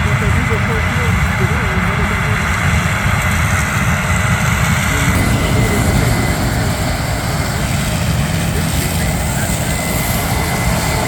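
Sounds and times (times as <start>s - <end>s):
deep engine rumble: 0.0s - 11.0s
farm machinery running: 0.0s - 11.0s.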